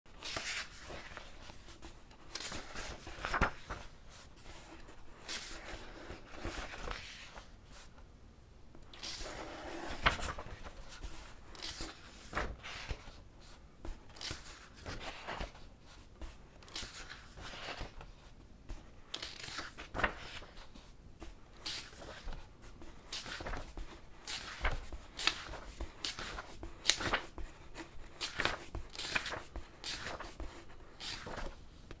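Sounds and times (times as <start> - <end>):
book pages turning: 0.1 - 8.0, 8.8 - 32.0.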